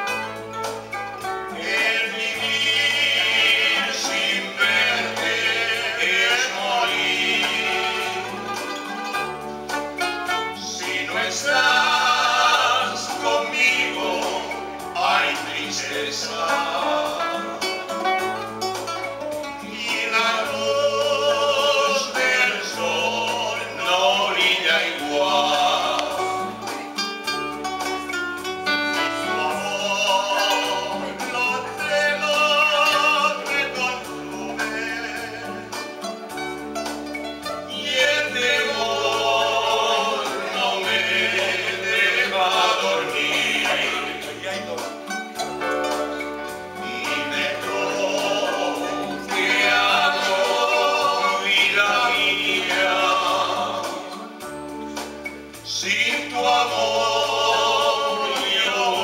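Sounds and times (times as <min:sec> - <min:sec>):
acoustic guitar: 0:00.0 - 0:59.0
keyboard: 0:00.0 - 0:59.0
male vocal group singing: 0:01.4 - 0:27.2, 0:28.7 - 0:36.4, 0:37.6 - 0:59.0.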